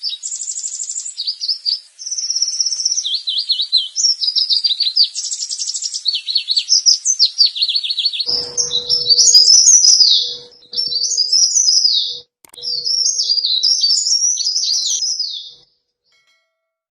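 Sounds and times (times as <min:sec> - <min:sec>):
bird high chirps and twittering: 0:00.0 - 0:15.6.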